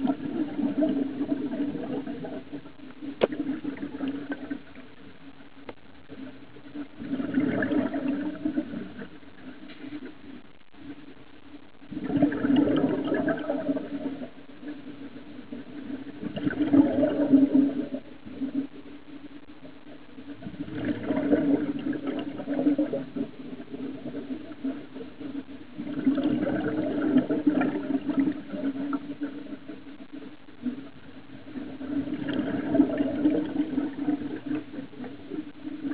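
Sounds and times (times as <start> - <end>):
underwater regulator exhaust bubbles: 0.0 - 10.7, 11.7 - 35.9.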